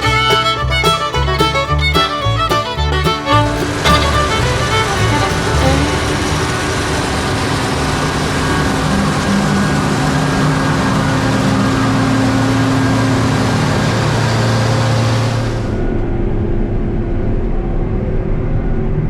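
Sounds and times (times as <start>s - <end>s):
diesel engine running under load: 0.0s - 15.8s.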